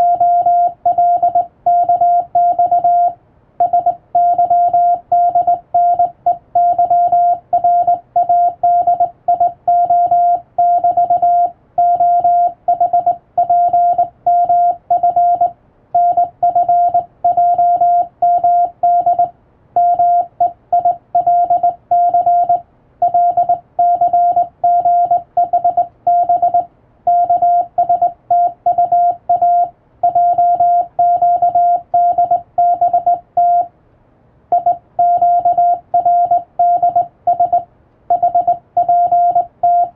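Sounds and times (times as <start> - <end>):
morse code beep tone: 0.0 - 33.7, 34.5 - 39.9.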